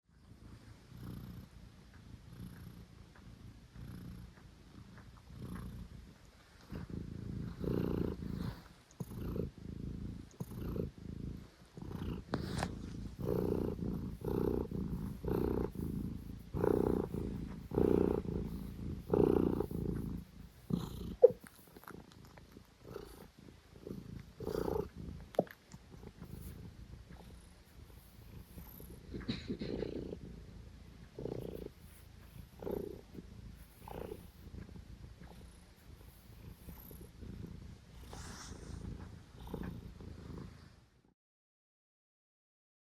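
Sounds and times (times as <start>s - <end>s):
cat purring: 0.0s - 41.1s.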